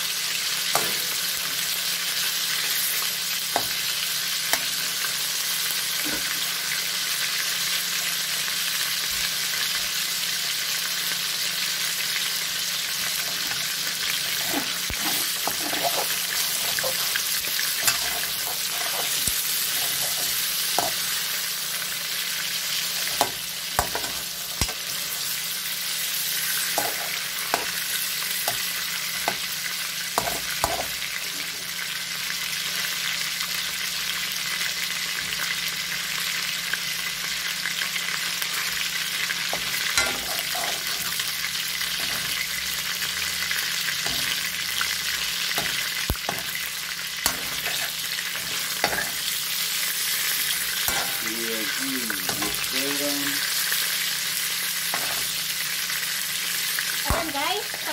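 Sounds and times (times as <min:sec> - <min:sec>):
chicken sizzling in hot oil: 0:00.0 - 0:57.9.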